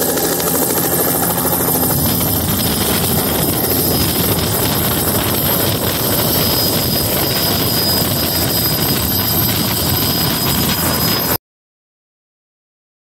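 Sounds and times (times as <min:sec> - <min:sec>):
helicopter rotor running: 0:00.0 - 0:11.4
high turbine whine: 0:00.0 - 0:11.4.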